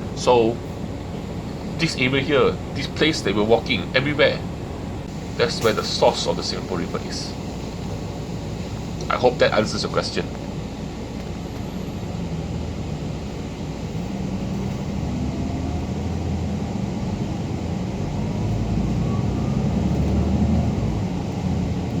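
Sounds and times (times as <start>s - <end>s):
outdoor background noise: 0.0s - 22.0s
passing vehicle rumble: 0.0s - 22.0s.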